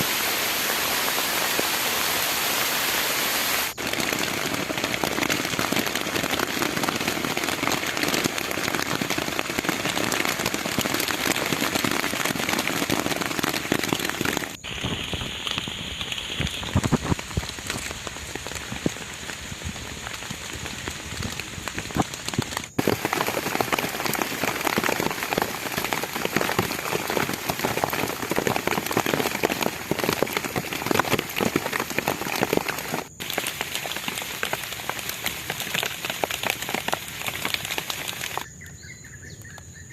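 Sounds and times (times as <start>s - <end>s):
heavy rain falling: 0.0s - 38.4s.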